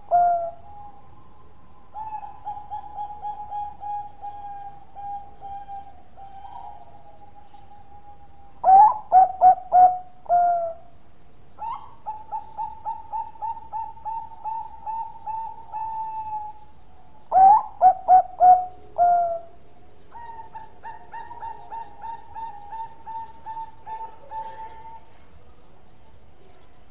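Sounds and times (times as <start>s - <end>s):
dove cooing: 0.0s - 11.0s, 11.6s - 25.5s.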